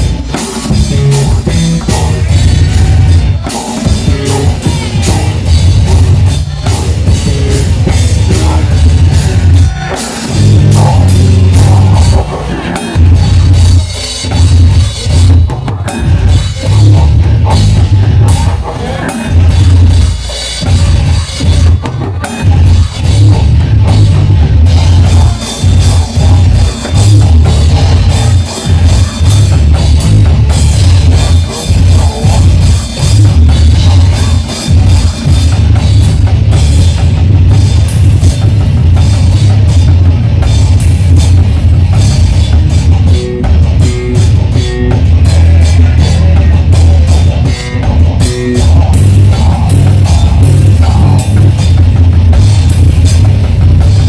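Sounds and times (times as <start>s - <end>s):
extreme metal band playing: 0.0s - 54.0s
heavy fast drum hits: 0.0s - 54.0s.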